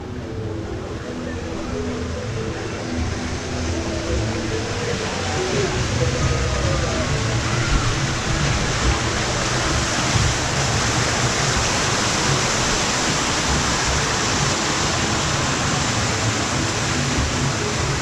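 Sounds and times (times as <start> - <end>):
waterfall rushing and splashing: 0.0 - 18.0.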